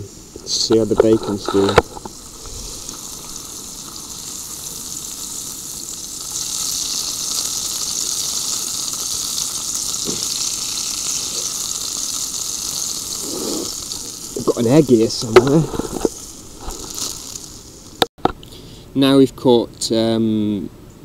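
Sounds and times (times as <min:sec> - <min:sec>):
bacon sizzling in a frying pan: 0:00.0 - 0:18.1.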